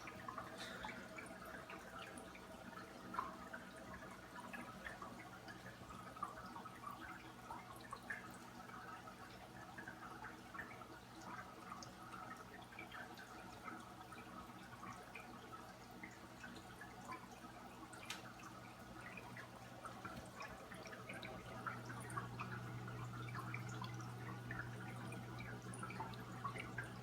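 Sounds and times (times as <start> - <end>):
little splashes: 0.0 - 27.0
low steady hum: 0.0 - 27.0
small waterfall trickling: 0.0 - 27.0.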